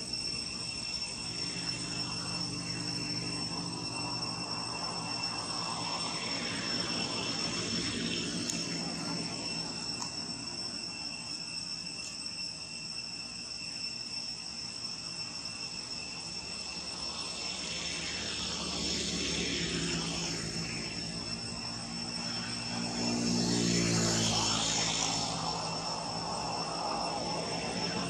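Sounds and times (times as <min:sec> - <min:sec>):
aircraft engine drone: 0:00.0 - 0:28.0
insects chirring: 0:00.0 - 0:28.0.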